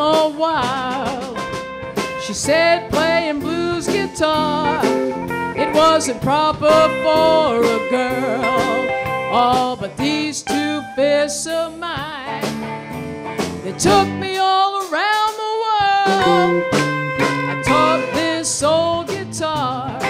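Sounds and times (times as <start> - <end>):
blues band playing: 0.0 - 20.0
electric guitar solo: 1.3 - 14.4, 16.0 - 20.0.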